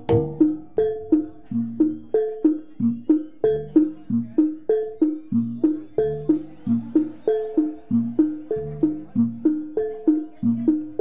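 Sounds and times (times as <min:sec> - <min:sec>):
gamelan music: 0:00.0 - 0:11.0.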